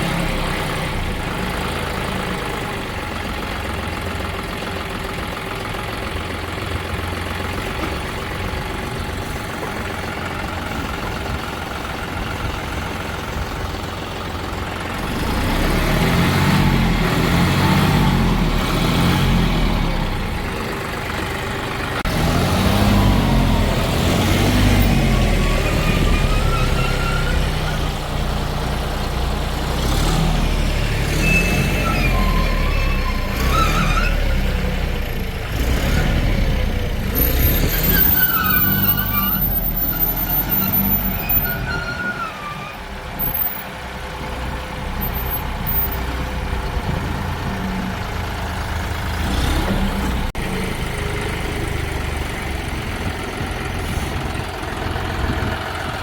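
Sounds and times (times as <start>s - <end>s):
diesel engine idling and revving: 0.0s - 56.0s.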